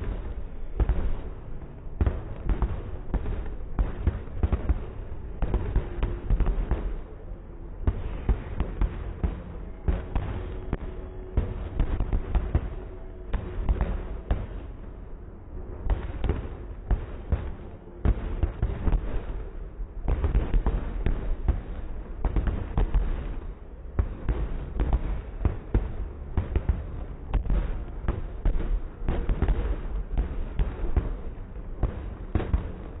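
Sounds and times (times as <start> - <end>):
fireworks bangs and booms: 0.0 - 33.0.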